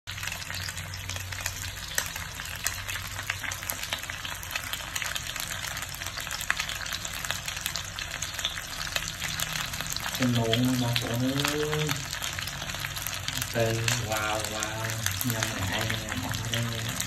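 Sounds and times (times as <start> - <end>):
oil crackling and popping: 0.1 - 17.0
rice cake sizzling in oil: 0.1 - 17.0.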